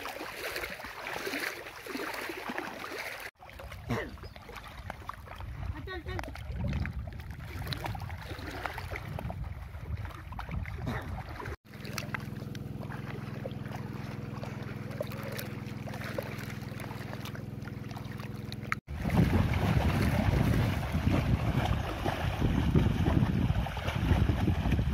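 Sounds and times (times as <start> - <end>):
water sloshing and splashing: 0.0 - 24.9
low motor hum: 3.8 - 24.9.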